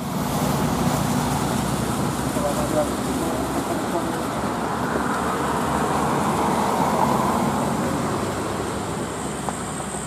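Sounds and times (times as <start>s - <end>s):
passing cars and motorbikes: 0.0s - 10.0s
tyre noise on wet road: 0.0s - 10.0s.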